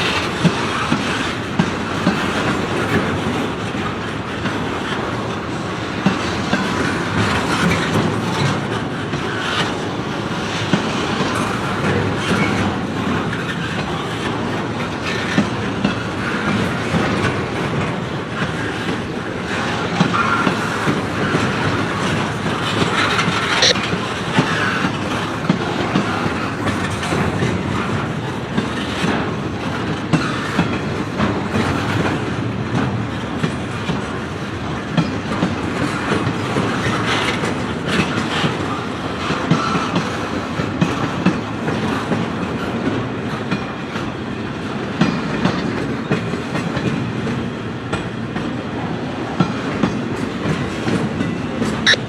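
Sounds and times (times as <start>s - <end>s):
train wheels clacking over rail joints: 0.0s - 52.0s.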